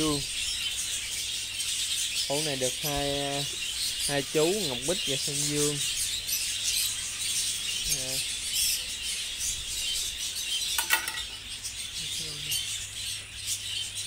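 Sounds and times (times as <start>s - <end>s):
budgerigar flock twittering: 0.0s - 14.0s.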